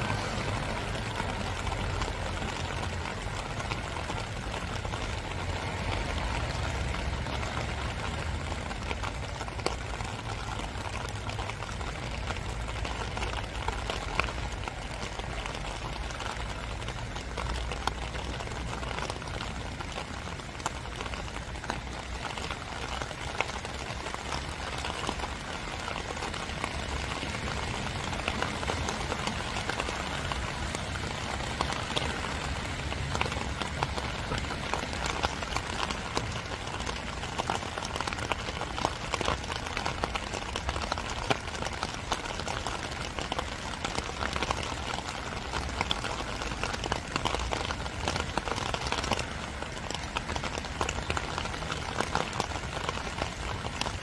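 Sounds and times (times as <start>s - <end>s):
louder raindrops ticking: 0.0s - 54.0s
steady rain hiss: 0.0s - 54.0s.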